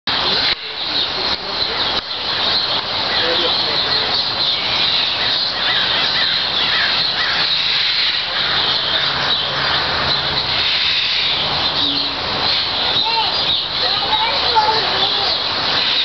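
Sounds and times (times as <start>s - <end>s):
birds chirping: 0.1s - 16.0s
harsh caw-like bird calls: 1.7s - 16.0s.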